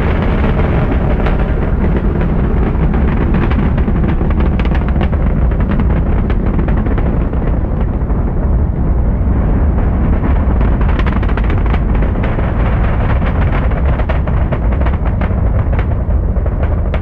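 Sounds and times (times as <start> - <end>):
rocket engines rumbling and crackling: 0.0 - 17.0.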